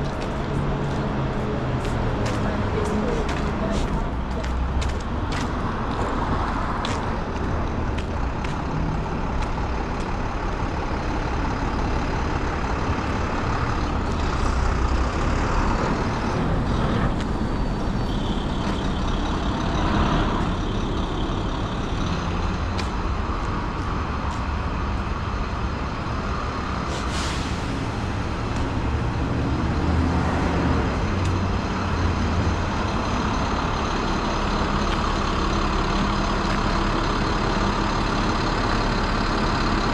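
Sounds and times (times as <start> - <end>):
heavy street traffic rumble: 0.0 - 39.9.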